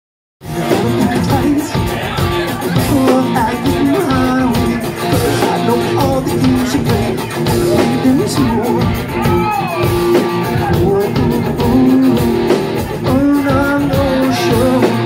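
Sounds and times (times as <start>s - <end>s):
drums: 0.4s - 15.0s
electric guitar: 0.4s - 15.0s
sung vocals: 0.4s - 15.0s.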